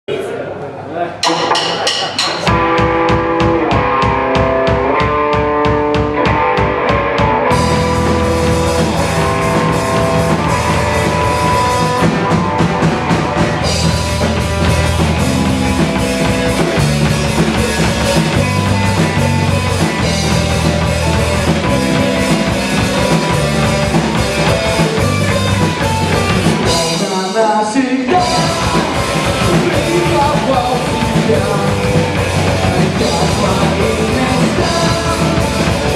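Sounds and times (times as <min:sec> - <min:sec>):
drum kit beat: 0:01.2 - 0:35.9
electric guitar riff: 0:01.2 - 0:35.9.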